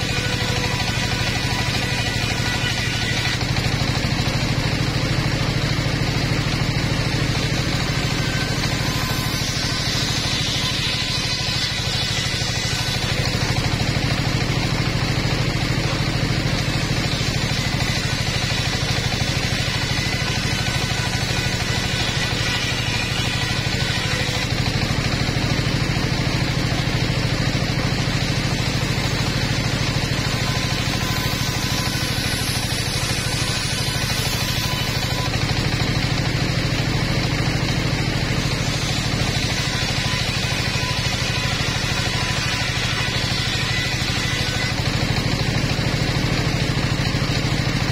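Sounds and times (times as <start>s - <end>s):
engine pulsing: 0.0s - 47.9s
saw blade cutting wood: 0.0s - 47.9s.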